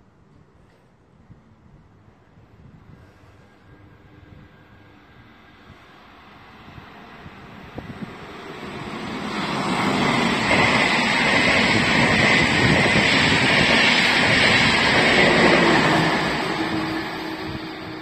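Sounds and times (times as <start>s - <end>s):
train passing at speed: 2.0s - 18.0s.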